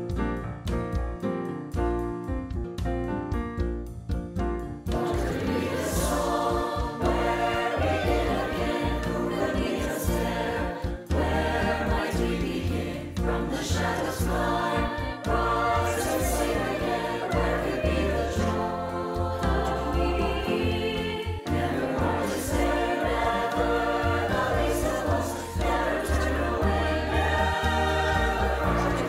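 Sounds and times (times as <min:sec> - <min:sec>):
low bass line: 0:01.9 - 0:29.0
mixed choir singing in parts: 0:04.9 - 0:29.0.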